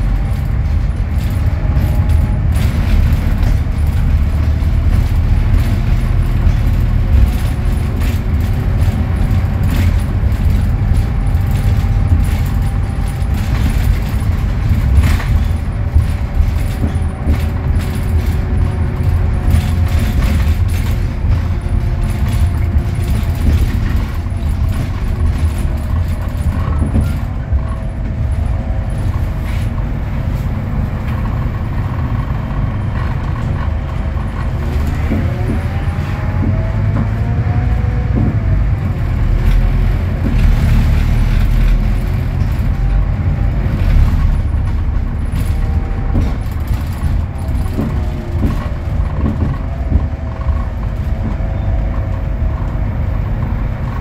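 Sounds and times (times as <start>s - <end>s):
bus engine drone: 0.0s - 54.0s
clicks and rattles: 0.0s - 54.0s.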